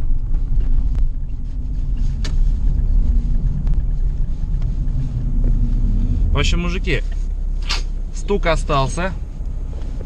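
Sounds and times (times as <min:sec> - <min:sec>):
suspension knocking: 0:00.0 - 0:08.1
low road rumble: 0:00.0 - 0:10.0.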